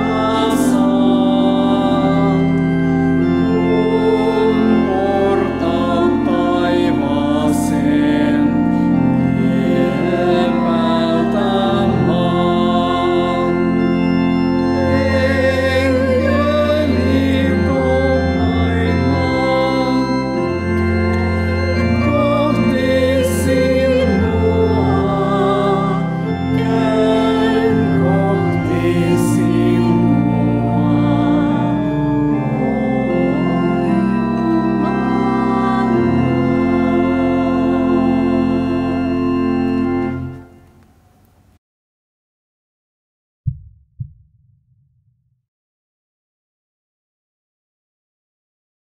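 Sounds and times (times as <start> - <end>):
pipe organ playing hymn chords: 0.0 - 41.3.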